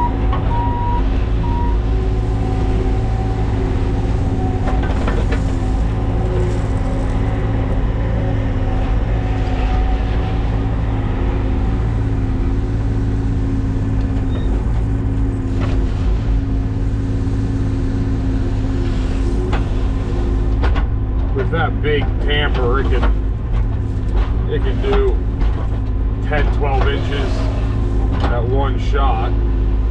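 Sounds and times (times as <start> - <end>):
construction equipment engine running: 0.0 - 29.9.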